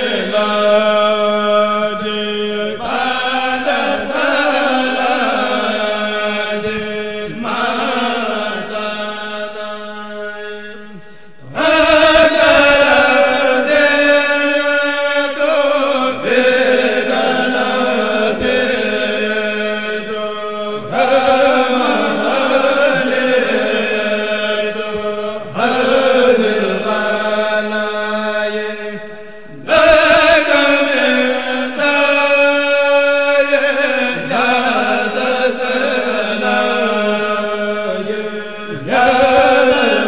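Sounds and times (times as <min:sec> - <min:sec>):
men chanting together: 0:00.0 - 0:10.6, 0:11.4 - 0:40.0.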